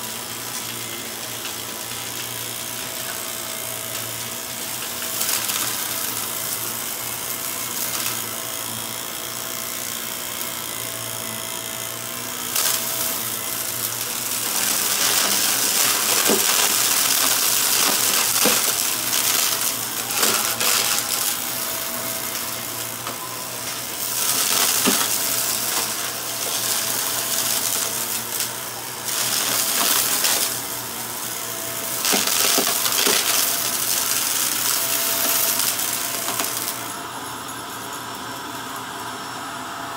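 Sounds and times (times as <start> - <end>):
vacuum cleaner motor hum: 0.0 - 39.9.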